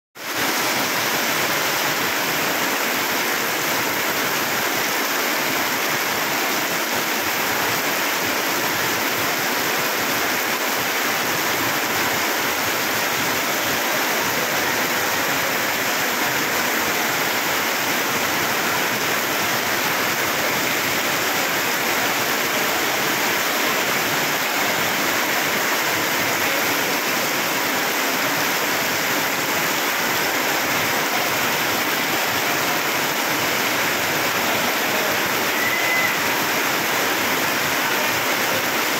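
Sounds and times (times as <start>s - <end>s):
heavy rain on concrete: 0.2s - 38.9s.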